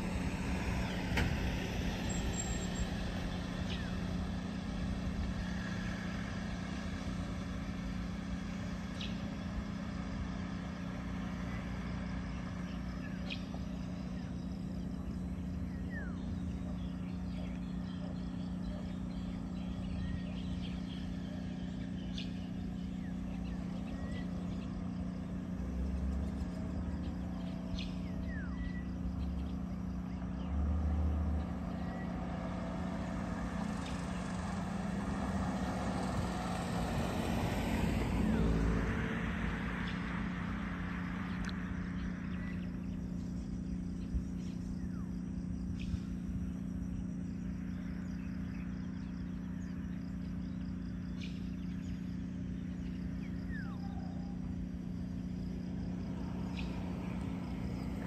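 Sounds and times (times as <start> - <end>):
steady low hum: 0.0 - 58.0
vehicle approaching rumble: 0.0 - 58.0.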